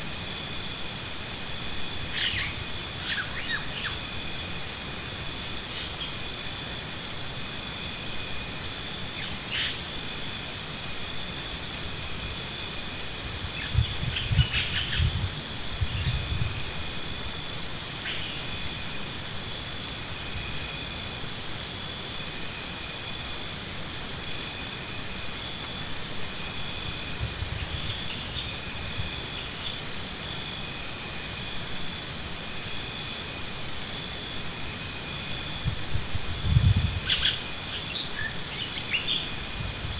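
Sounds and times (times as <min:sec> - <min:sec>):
high-pitched insect hum: 0:00.0 - 0:39.9
insects trilling: 0:00.0 - 0:39.9.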